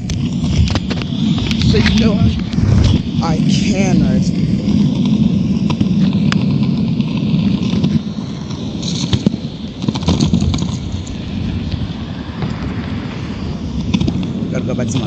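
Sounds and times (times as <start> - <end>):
skateboard wheels rolling on pavement: 0.0 - 15.0.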